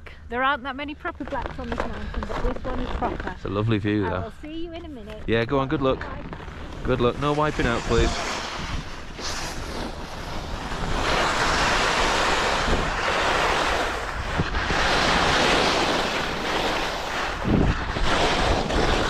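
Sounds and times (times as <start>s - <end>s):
wind buffeting microphone: 0.6s - 19.0s
skis scraping over hard snow: 1.3s - 4.2s, 5.3s - 19.0s.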